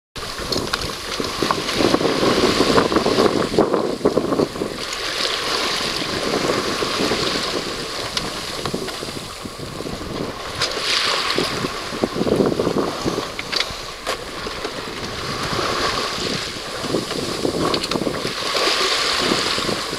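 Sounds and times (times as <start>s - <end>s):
water rushing past hull: 0.2s - 19.9s
wind buffeting microphone: 0.2s - 19.9s.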